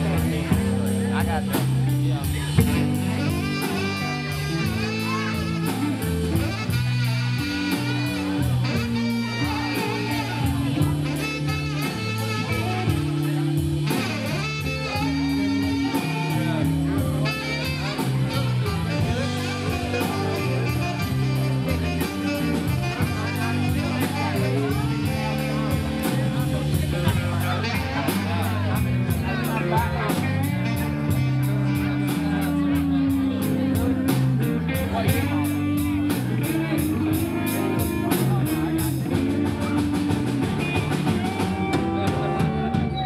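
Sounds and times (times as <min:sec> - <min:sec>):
drums keeping a beat: 0:00.0 - 0:43.0
electric guitar: 0:00.0 - 0:43.0
saxophone melody: 0:00.0 - 0:43.0.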